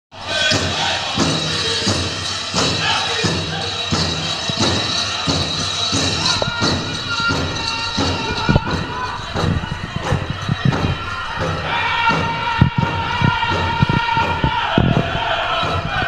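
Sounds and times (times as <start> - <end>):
group singing: 0.1 - 16.0
dance bells jingling: 0.2 - 14.5
drum struck in steady beat: 0.2 - 16.0.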